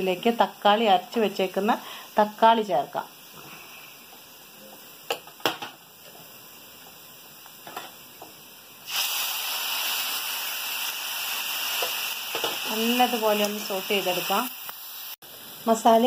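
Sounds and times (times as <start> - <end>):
loud sizzle in a pan: 0.0 - 16.0.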